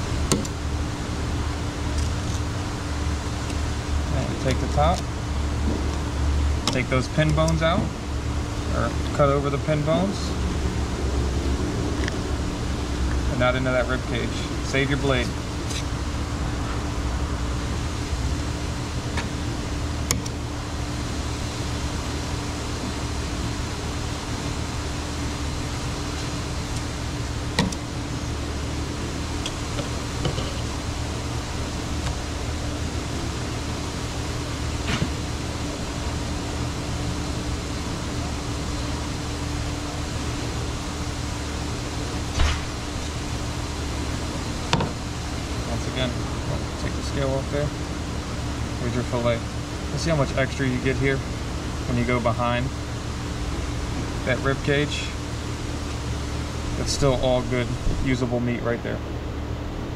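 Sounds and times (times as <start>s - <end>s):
mechanical hum and hiss: 0.0s - 59.9s.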